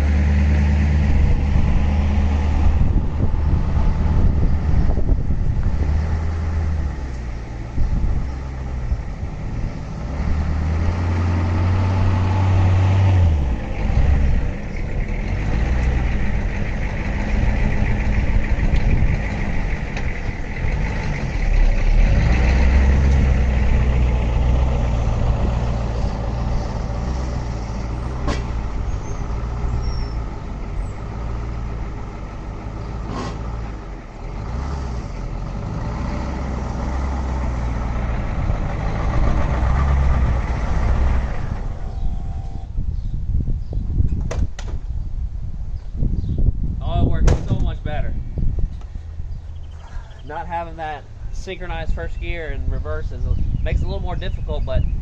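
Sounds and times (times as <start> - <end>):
diesel truck engine revving: 0.0 - 43.4, 46.4 - 55.0.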